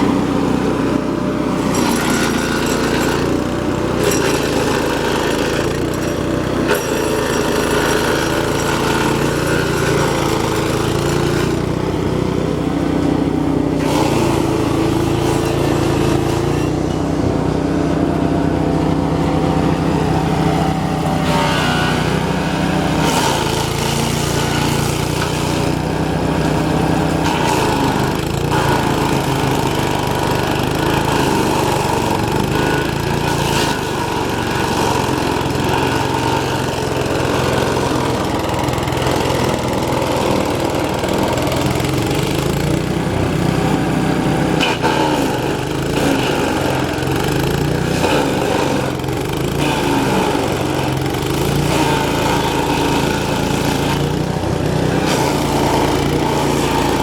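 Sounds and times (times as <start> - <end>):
garden shredder engine running: 0.0 - 57.0.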